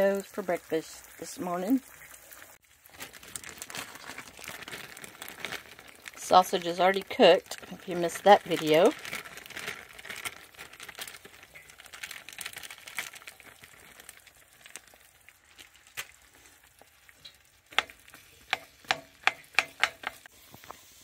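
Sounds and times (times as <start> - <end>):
eggs sizzling in a frying pan: 0.0 - 21.0.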